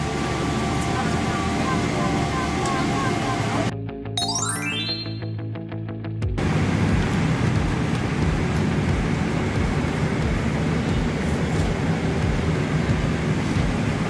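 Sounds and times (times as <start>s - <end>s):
airliner cabin drone: 0.0s - 3.7s, 6.4s - 14.0s.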